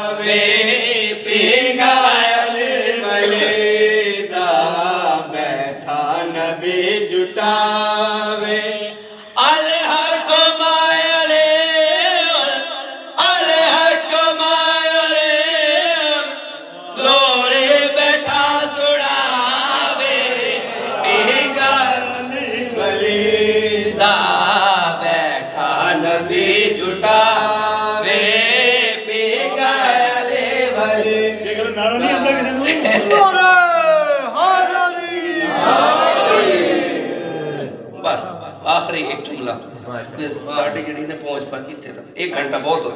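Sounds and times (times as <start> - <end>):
man chanting into a microphone: 0.0 - 35.5.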